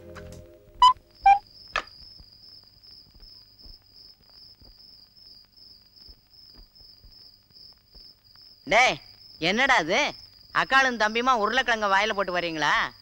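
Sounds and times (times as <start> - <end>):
crickets chirping: 0.8 - 13.0.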